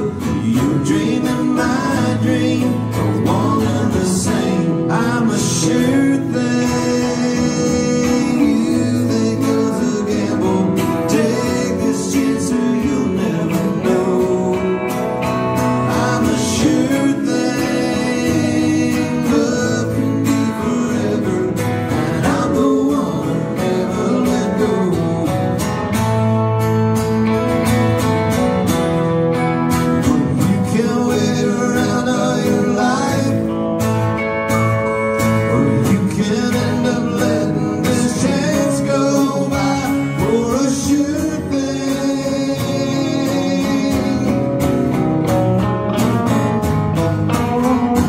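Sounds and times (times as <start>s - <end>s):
person singing: 0.0s - 26.2s, 29.8s - 34.2s, 35.2s - 45.0s, 46.9s - 48.0s
live country band playing: 0.0s - 48.0s
strummed acoustic guitar: 0.0s - 48.0s.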